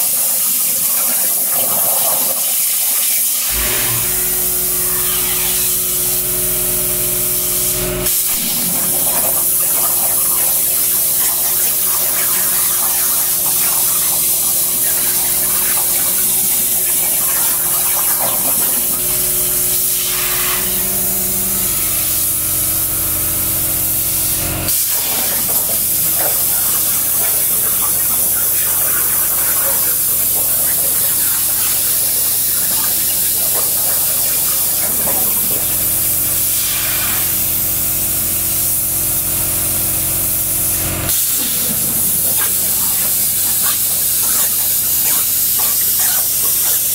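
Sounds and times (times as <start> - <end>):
plasma cutter hissing: 0.0 - 46.9
steady hum: 3.4 - 46.9.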